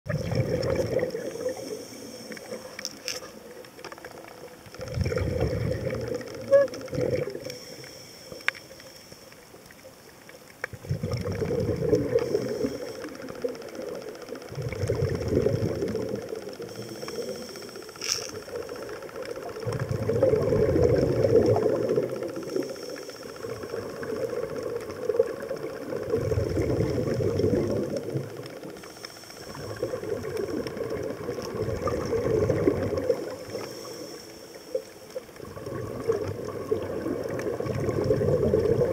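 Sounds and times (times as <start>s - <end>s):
underwater exhaust bubbles: 0.1s - 38.9s
faint clicks: 0.4s - 38.9s.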